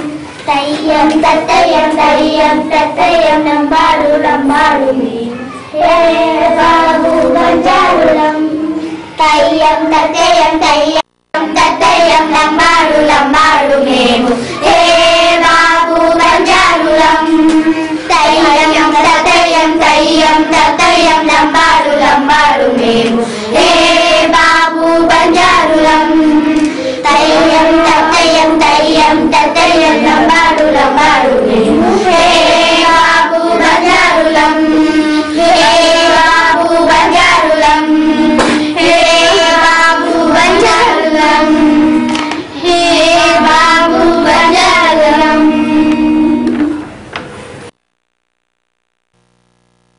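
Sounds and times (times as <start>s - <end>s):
children singing in unison: 0.0s - 46.7s.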